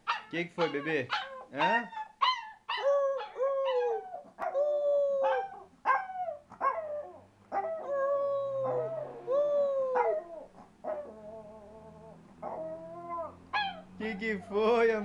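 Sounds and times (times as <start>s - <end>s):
small dog howling and whining: 0.6s - 13.9s.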